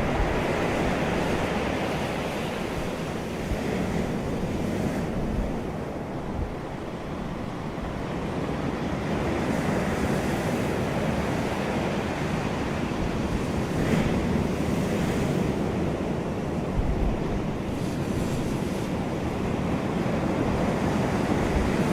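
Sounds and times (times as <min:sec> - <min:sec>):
ocean waves breaking on beach: 0:00.0 - 0:21.9
wind buffeting microphone: 0:00.0 - 0:21.9.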